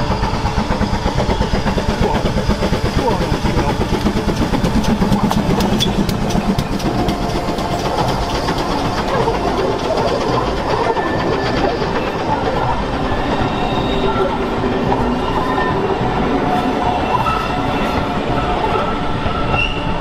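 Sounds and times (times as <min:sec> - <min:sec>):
train running on track: 0:00.0 - 0:20.0
wheels clicking over rail joints: 0:00.8 - 0:18.9.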